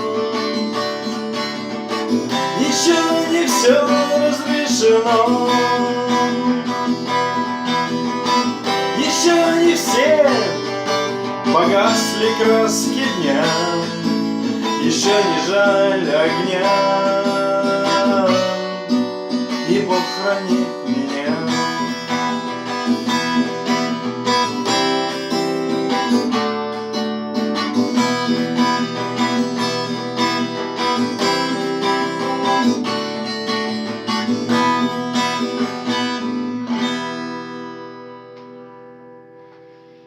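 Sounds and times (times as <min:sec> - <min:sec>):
acoustic guitar chords strummed: 0:00.0 - 0:40.0.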